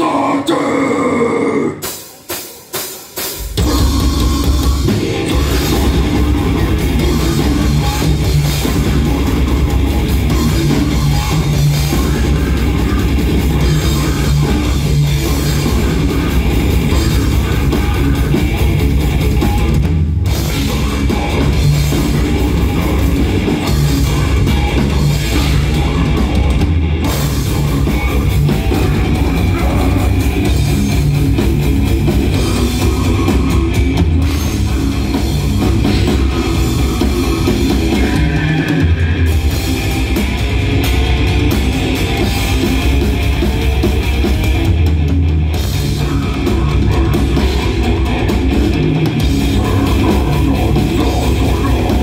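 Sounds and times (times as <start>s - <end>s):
distorted electric guitar: 0.0s - 52.0s
drums played fast and hard: 0.0s - 52.0s.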